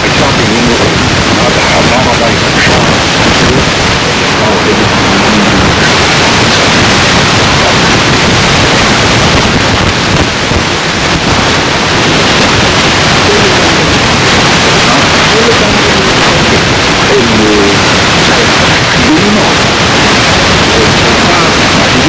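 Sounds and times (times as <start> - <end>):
faint voice: 0.0 - 8.9, 11.8 - 22.0
static hiss: 0.0 - 22.0.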